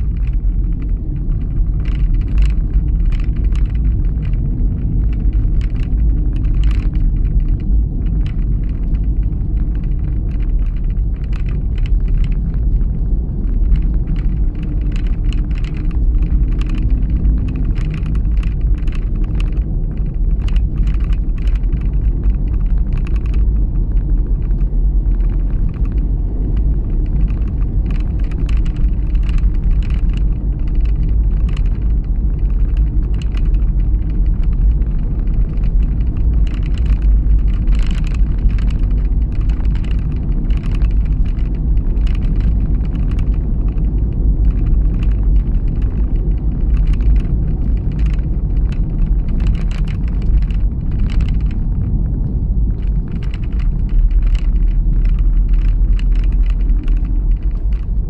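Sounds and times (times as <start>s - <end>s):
car engine and tyres rumbling: 0.0s - 58.0s
faint hum: 0.0s - 58.0s
small clicks and ticks: 0.0s - 58.0s.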